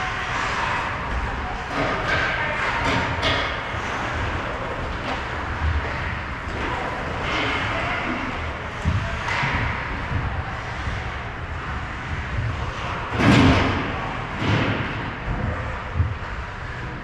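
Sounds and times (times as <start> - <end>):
ice hockey game din: 0.0 - 17.0.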